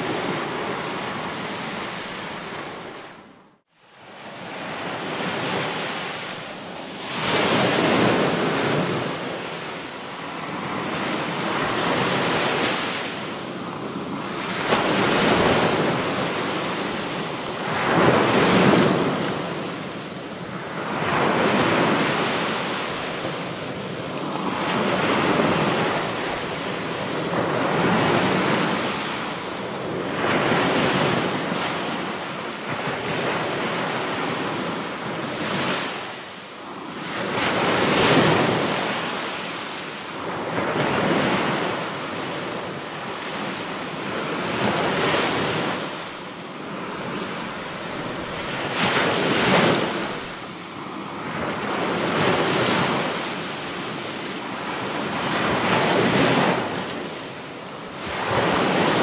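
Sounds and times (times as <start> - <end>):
waves breaking on shore: 4.0 - 59.0.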